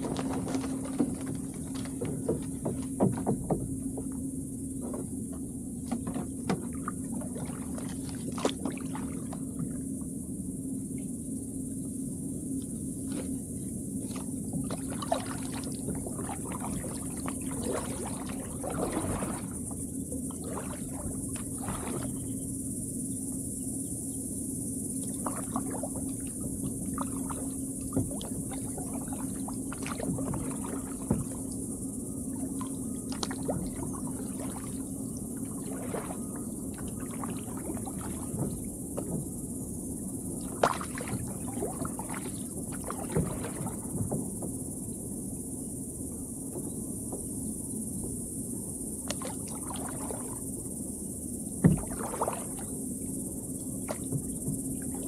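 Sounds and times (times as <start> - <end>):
paddle splashing: 0.0 - 9.9, 12.6 - 22.5, 25.0 - 44.7, 49.0 - 50.5, 51.6 - 55.0
faint low hum: 0.0 - 55.0
insects droning: 0.0 - 55.0.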